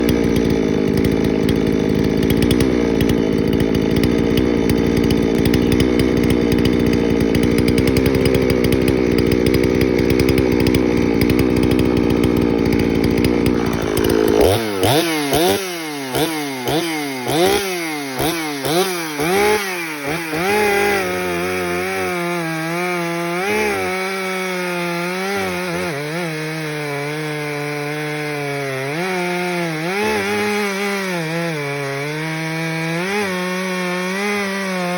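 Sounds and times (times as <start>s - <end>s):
chainsaw revving and idling: 0.0s - 34.9s.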